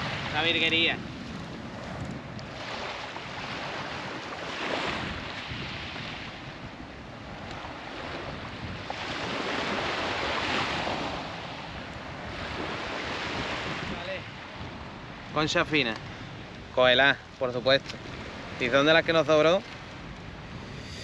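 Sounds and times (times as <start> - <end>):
sea surf washing onto beach: 0.0 - 21.0
wind rumbling on microphone: 0.0 - 21.0.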